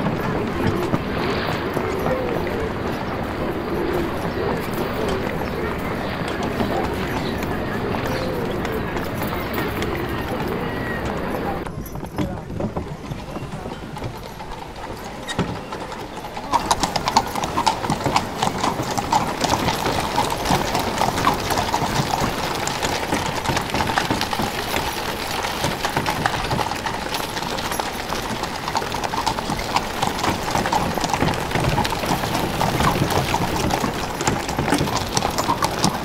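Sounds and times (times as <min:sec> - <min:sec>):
horse hooves on cobblestones: 0:00.0 - 0:36.0.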